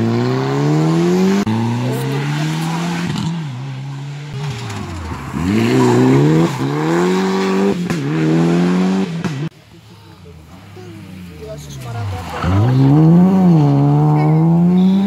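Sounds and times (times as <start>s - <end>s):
rally car engines revving: 0.0s - 15.0s.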